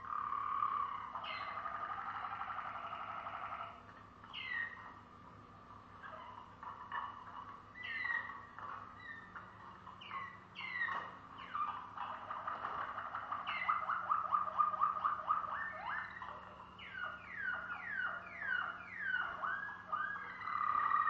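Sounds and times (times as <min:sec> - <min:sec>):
canary singing: 0:00.0 - 0:05.0, 0:06.0 - 0:21.0.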